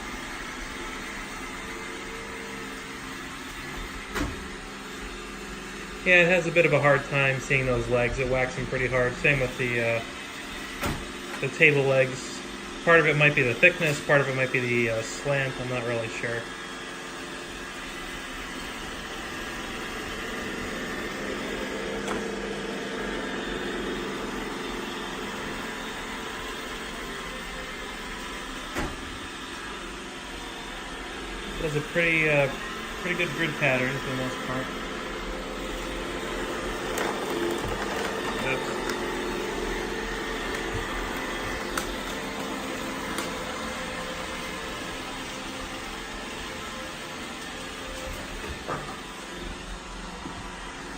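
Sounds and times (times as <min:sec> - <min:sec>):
robot vacuum whirring: 0:00.0 - 0:50.9.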